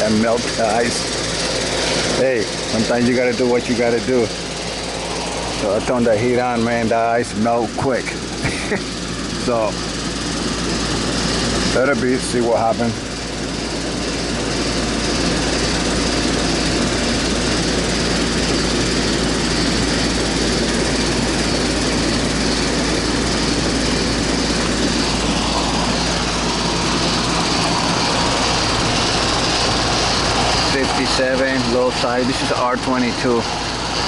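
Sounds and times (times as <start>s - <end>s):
air conditioner unit whirring: 0.0s - 34.0s.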